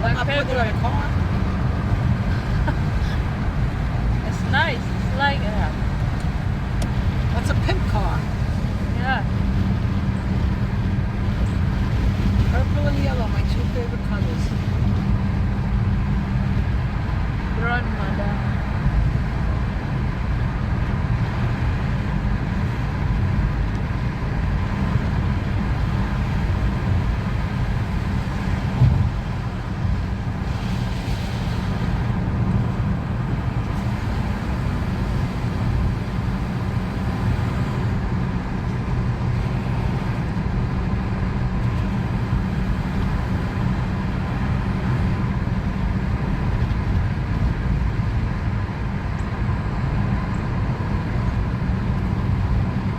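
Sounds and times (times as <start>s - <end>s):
road and engine rumble in car: 0.0s - 52.9s.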